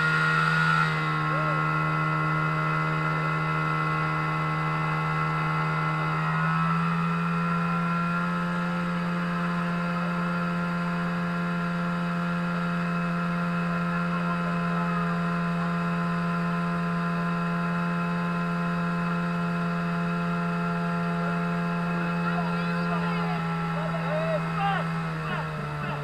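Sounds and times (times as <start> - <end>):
pump engine running: 0.0 - 26.0.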